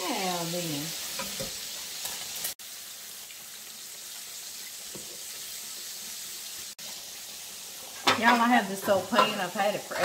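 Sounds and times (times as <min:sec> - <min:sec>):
pork chops frying in oil: 0:00.0 - 0:10.0.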